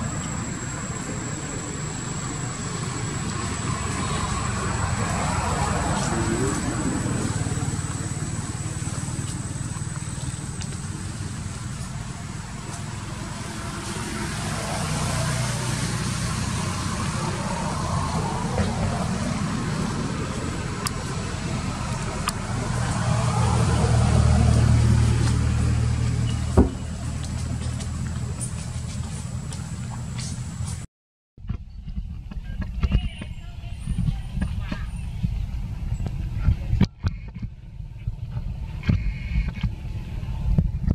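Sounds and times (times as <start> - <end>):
vehicle engine rumbling: 0.0 - 40.9.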